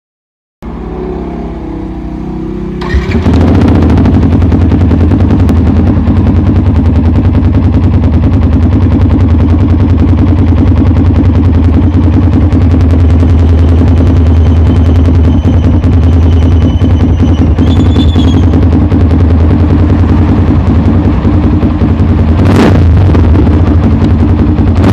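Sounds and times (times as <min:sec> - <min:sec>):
motorcycle engine exhaust: 0:00.6 - 0:24.9.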